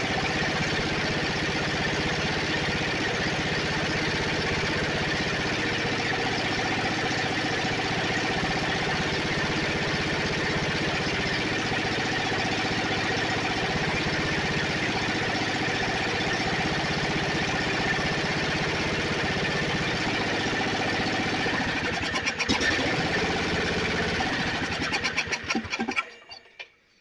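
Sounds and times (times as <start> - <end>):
riding mower engine running: 0.0 - 26.7.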